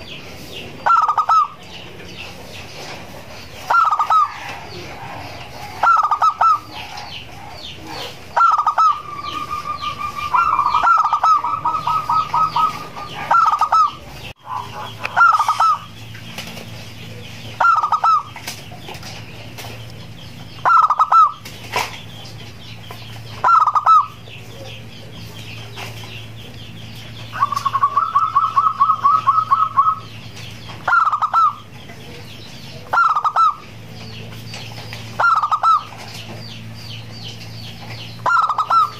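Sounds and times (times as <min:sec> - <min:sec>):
dove cooing: 0:00.0 - 0:22.4, 0:23.3 - 0:38.9.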